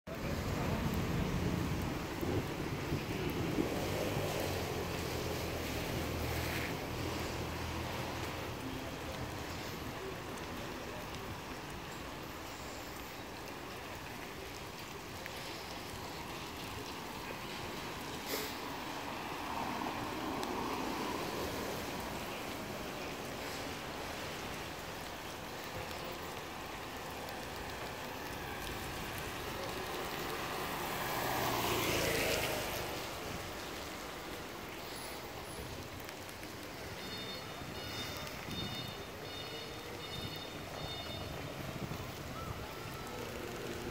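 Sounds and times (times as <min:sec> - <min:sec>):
rain on wet pavement: 0:00.0 - 0:43.9
wind: 0:00.0 - 0:43.9.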